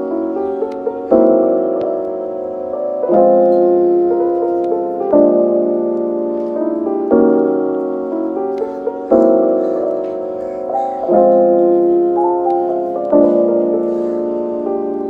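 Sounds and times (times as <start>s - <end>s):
mellow piano music: 0.0s - 15.0s.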